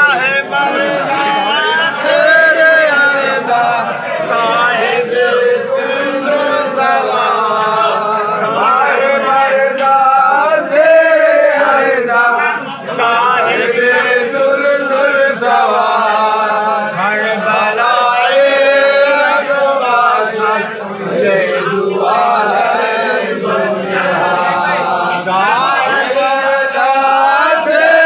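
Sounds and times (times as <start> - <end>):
men chanting together: 0.0 - 28.0.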